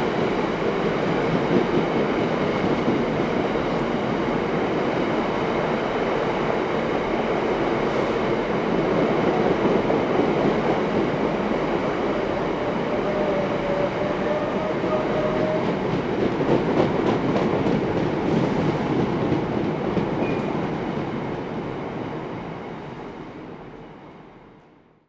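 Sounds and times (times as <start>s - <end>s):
freight train rumble and clatter: 0.0s - 24.7s.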